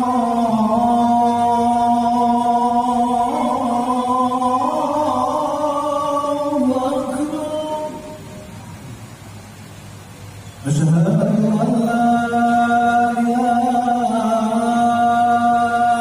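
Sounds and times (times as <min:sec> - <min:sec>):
man chanting call to prayer: 0:00.0 - 0:08.4, 0:10.6 - 0:16.0.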